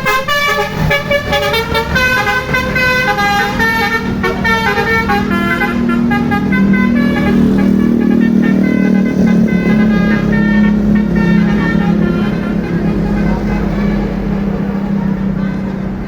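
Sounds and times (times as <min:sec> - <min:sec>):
musical bus air horn: 0:00.0 - 0:16.0.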